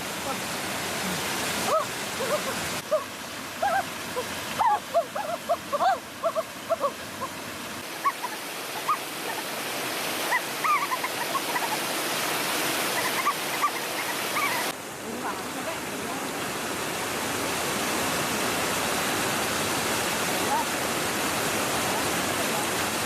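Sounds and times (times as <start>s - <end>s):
rush of falling water: 0.0s - 23.0s.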